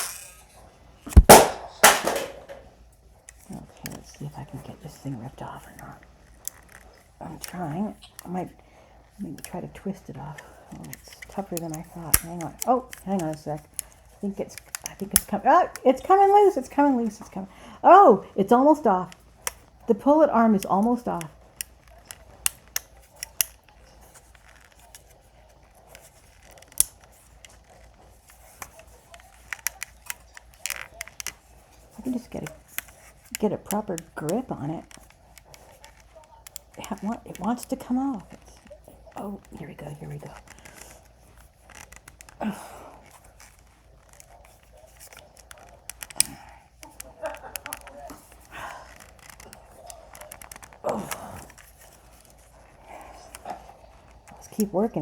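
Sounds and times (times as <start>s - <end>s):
plastic snapping: 0.0s - 55.0s
plastic toy clicking and creaking: 0.0s - 55.0s.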